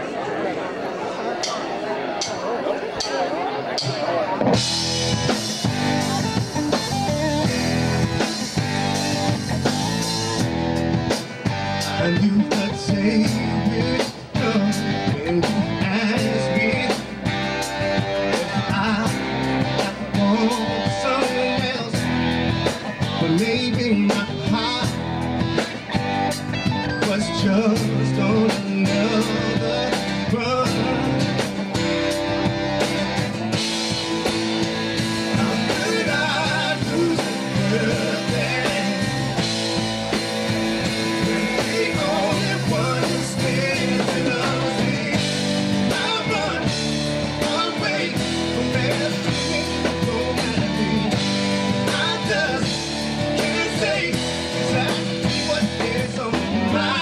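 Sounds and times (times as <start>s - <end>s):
drum kit beat: 3.0s - 57.0s
bass guitar: 3.6s - 57.0s
electric guitars: 3.8s - 57.0s.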